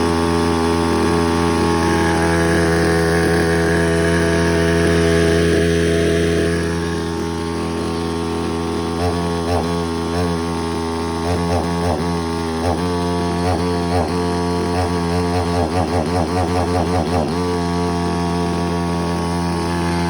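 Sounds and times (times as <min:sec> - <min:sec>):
chainsaw engine idling: 0:00.0 - 0:20.0.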